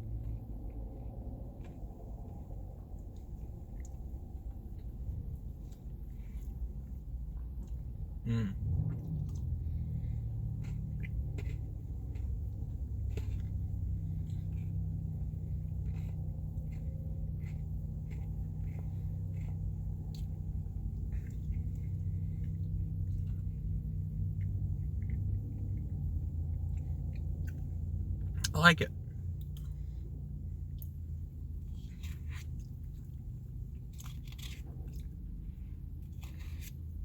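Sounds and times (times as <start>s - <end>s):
person chewing ice cream: 0.0s - 28.5s, 29.1s - 37.0s
steady low hum: 0.0s - 37.0s.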